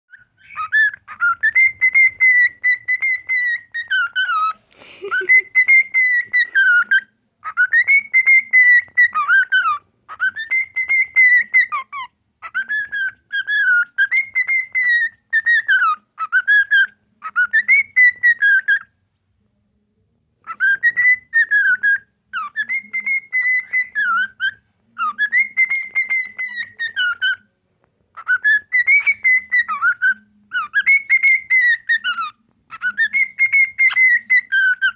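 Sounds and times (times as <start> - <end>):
cockatiel whistling: 0.1 - 18.9, 20.4 - 27.4, 28.1 - 34.9.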